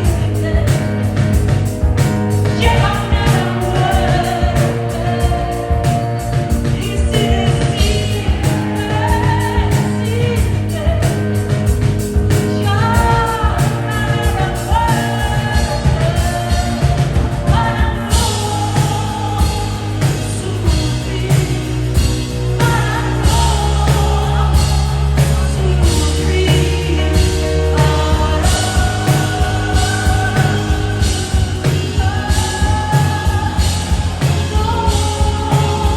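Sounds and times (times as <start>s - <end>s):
live band playing: 0.0s - 35.9s
person singing: 0.0s - 35.9s
steady drum beat: 0.0s - 35.9s.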